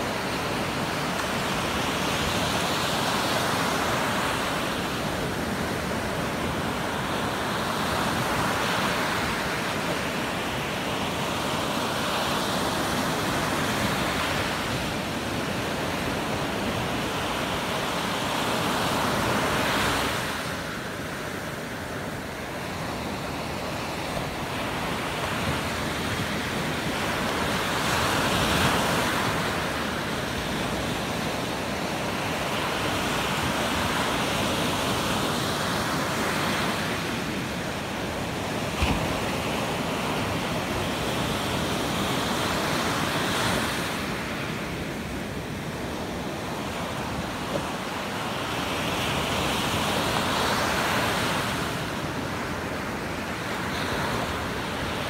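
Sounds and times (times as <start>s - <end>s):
waves washing up a beach: 0.0s - 55.0s.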